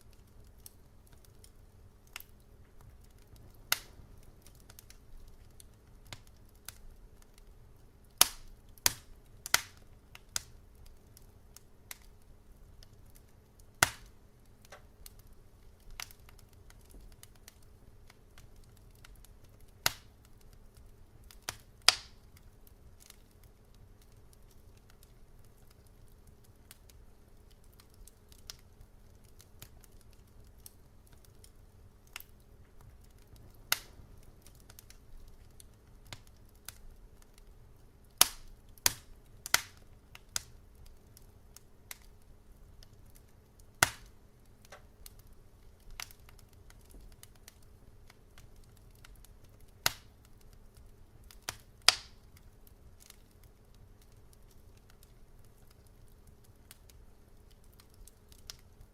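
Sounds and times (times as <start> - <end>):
low steady hum: 0.0 - 58.9
wood fire crackling: 0.0 - 58.9.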